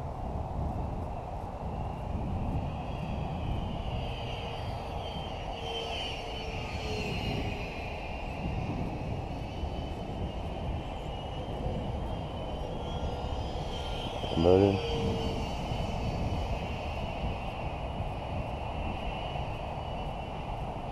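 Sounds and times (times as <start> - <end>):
electric ducted fan whining: 0.0 - 20.9.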